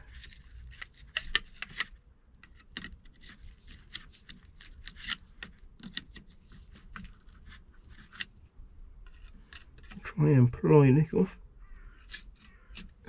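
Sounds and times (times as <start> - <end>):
tool clicks and scrapes on metal: 0.0 - 8.4, 9.0 - 10.2, 11.6 - 13.0.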